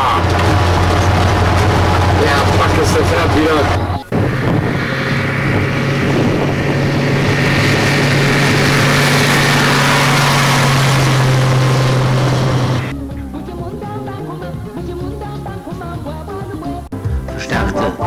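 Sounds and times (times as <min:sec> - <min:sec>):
road noise: 0:00.0 - 0:16.2
vehicle engine drone: 0:00.0 - 0:18.0.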